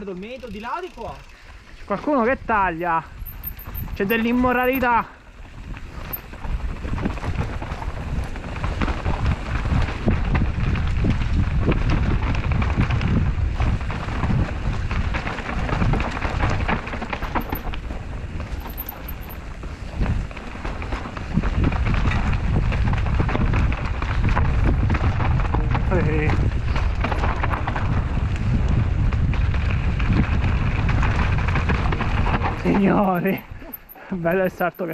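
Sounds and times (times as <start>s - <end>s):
bike rattling and knocking: 0.0s - 34.9s
bike tyres rumbling on dirt: 0.0s - 34.9s
wind on microphone: 1.6s - 33.7s.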